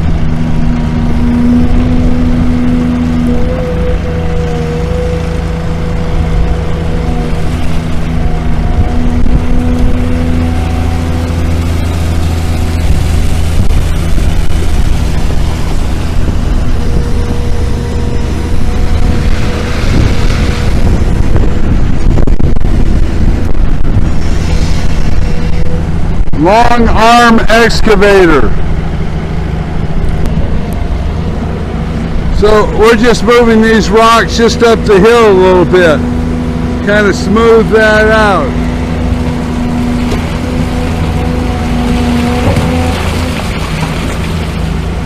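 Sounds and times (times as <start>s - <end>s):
excavator diesel engine running: 0.0s - 45.0s
hydraulic whine: 0.0s - 45.0s.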